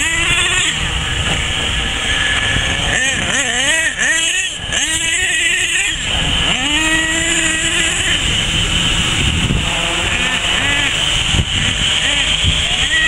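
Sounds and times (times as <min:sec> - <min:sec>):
high rotor whine: 0:00.0 - 0:13.0
model engine revving: 0:00.0 - 0:13.0.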